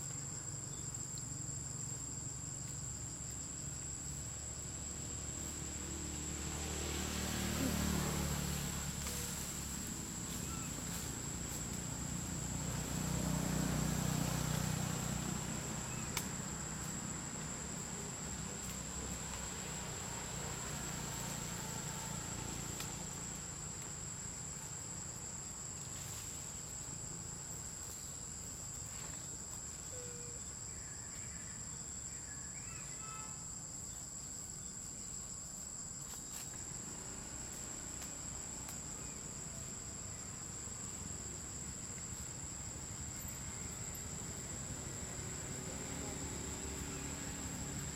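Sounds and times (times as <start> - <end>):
insects droning: 0.0 - 47.9.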